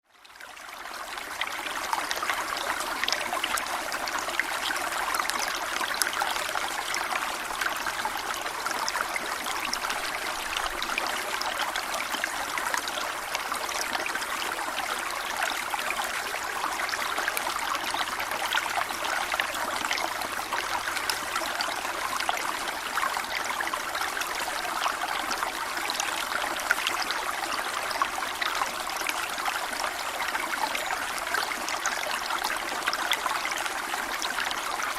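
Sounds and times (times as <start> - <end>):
stream running over stones: 0.2 - 34.9.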